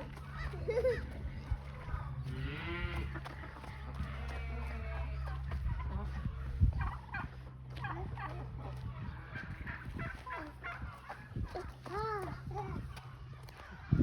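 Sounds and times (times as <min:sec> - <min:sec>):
poultry clucking: 0:00.0 - 0:14.0
steady low hum: 0:00.0 - 0:14.0.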